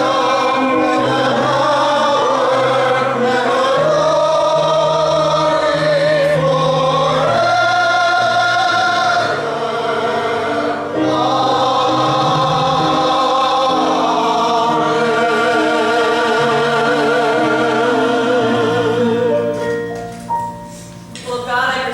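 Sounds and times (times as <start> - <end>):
voices singing a hymn: 0.0 - 19.9, 21.2 - 21.9.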